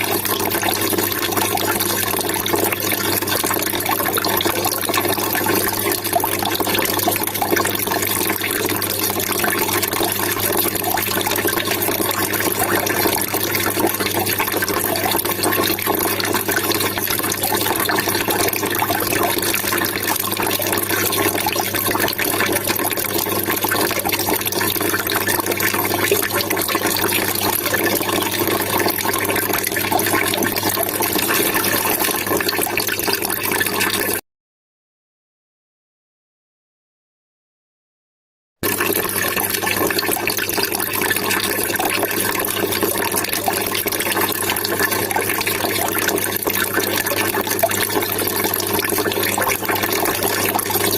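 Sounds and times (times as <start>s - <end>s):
water trickling and splashing: 0.0s - 34.2s, 38.6s - 50.9s.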